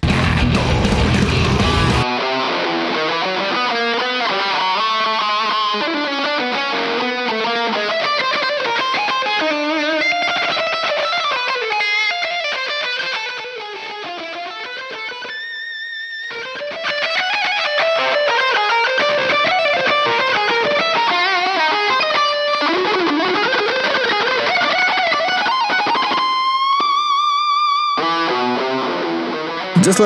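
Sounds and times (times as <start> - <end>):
distorted electric guitar solo: 0.0 - 30.0.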